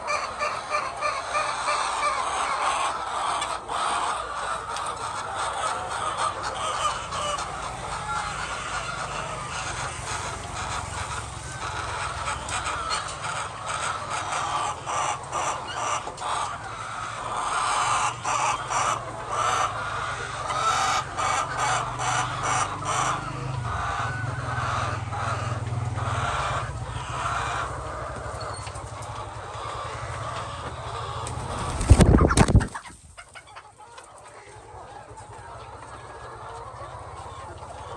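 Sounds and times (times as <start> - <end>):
chickens clucking and squawking: 0.0 - 37.9.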